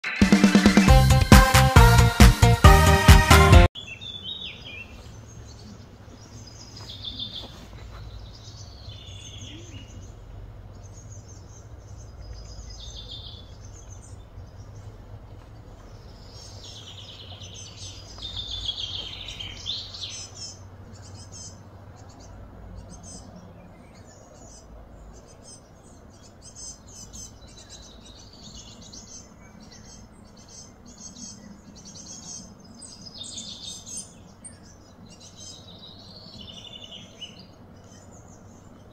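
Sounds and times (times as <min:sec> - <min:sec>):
birds chirping and calling: 0:03.8 - 0:38.9
low background hum: 0:04.4 - 0:38.9.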